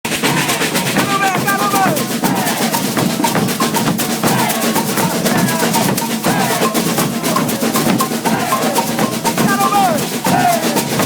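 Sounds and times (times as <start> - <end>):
percussion ensemble drumming: 0.1 - 11.0
voices singing: 0.1 - 11.0.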